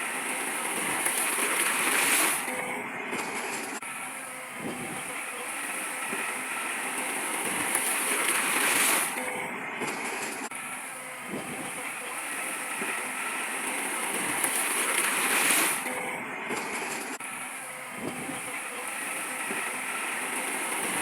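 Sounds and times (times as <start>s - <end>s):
heavy earthmoving machinery running: 0.0s - 21.0s.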